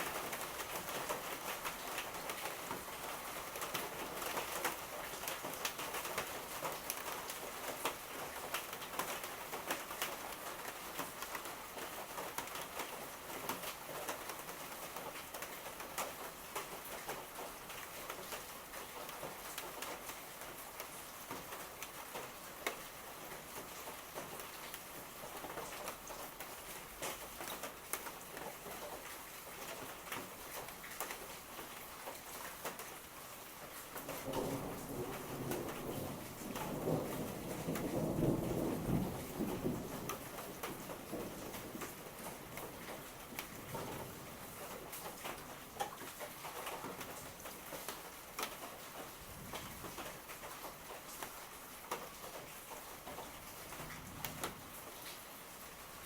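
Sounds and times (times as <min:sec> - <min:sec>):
raindrops ticking on hard surface: 0:00.0 - 0:56.0
steady rain falling: 0:00.0 - 0:56.0.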